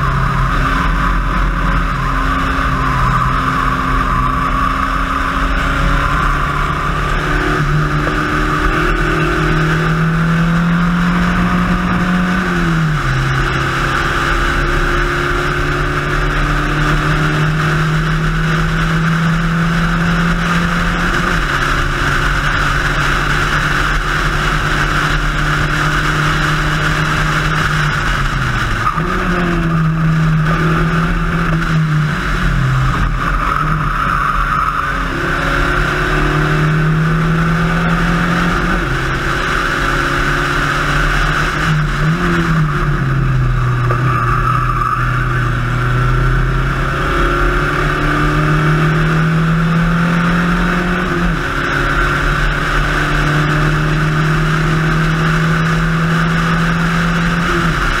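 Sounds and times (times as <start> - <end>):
race car engine revving: 0.0 - 58.0
wind and road noise: 0.0 - 58.0.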